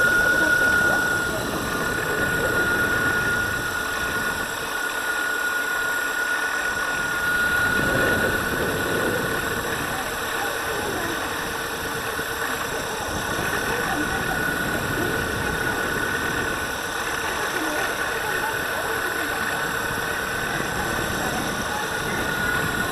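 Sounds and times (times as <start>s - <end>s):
board tyres rumbling on asphalt: 0.0s - 22.9s
high-pitched motor whine: 0.0s - 22.9s.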